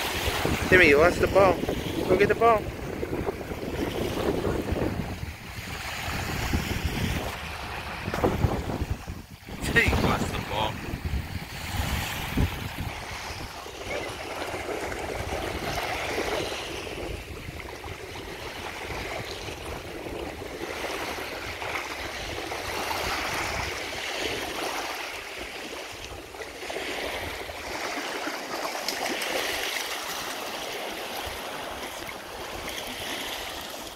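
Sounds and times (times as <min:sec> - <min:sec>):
small waves lapping: 0:00.0 - 0:33.9.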